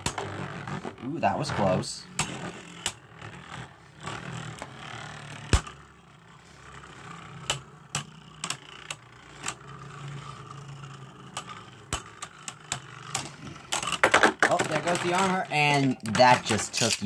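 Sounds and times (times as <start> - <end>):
spinning tops whirring: 0.0 - 17.0.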